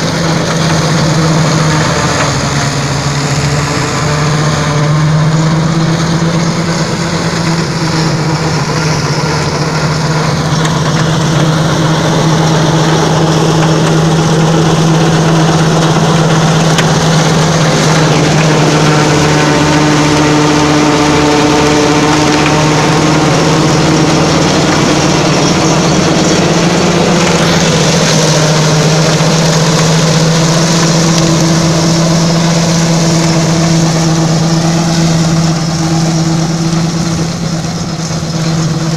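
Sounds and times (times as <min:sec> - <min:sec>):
seeder rushing through straw: 0:00.0 - 0:38.9
tractor diesel engine running: 0:00.0 - 0:38.9.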